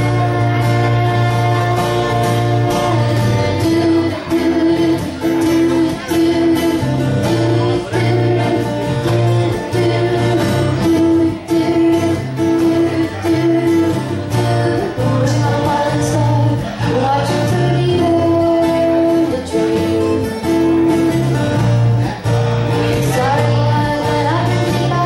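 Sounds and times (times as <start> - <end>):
girl singing: 0.0 - 21.7, 22.7 - 25.0
acoustic guitars strummed: 0.0 - 25.0
electric guitar: 0.0 - 25.0.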